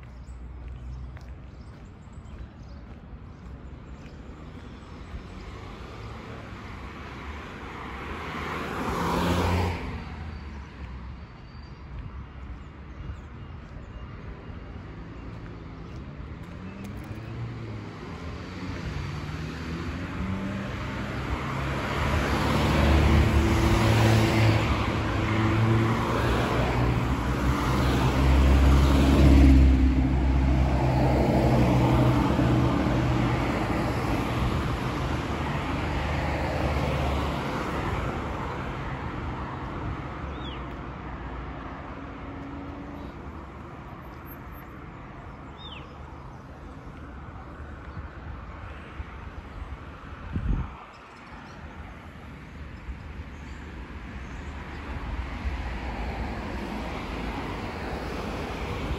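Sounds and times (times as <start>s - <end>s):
vehicles passing: 0.0s - 58.9s.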